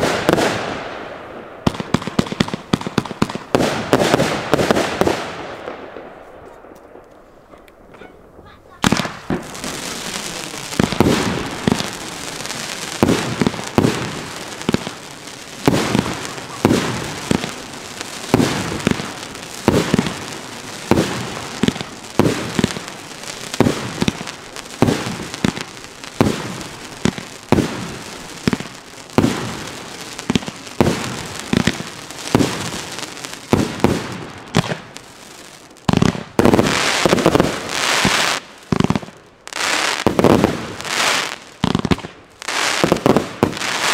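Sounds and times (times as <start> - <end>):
fireworks bursting with sharp bangs: 0.0 - 43.9.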